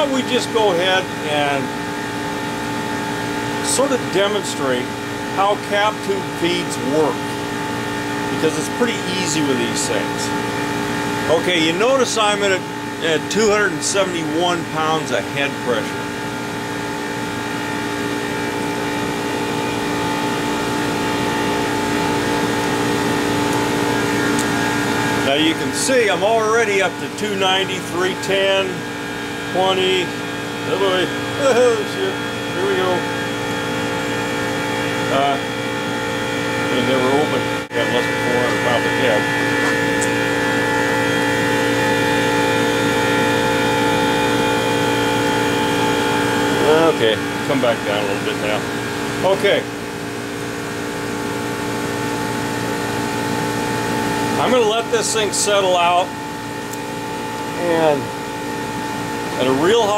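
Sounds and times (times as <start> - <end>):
heat pump humming: 0.0 - 59.9.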